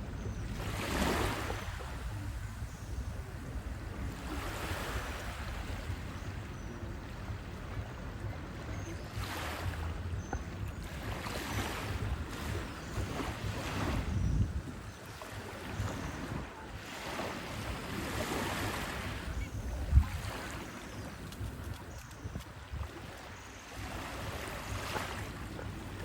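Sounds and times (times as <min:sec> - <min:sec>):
sea waves washing onto beach: 0:00.0 - 0:26.0
wind rumble on microphone: 0:00.0 - 0:26.0.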